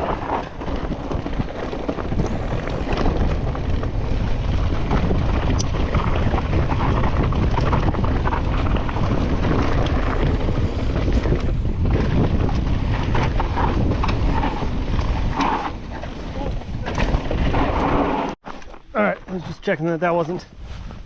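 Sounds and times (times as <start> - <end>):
wind buffeting microphone: 0.0 - 18.4
clicks and rattles of bike: 0.0 - 19.3
tyres rumbling on loose dirt: 0.0 - 20.4.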